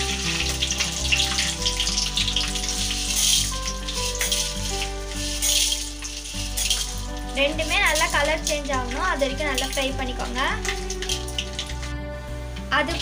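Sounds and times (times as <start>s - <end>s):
background music: 0.0s - 13.0s
lentils sizzling in oil: 0.0s - 13.0s.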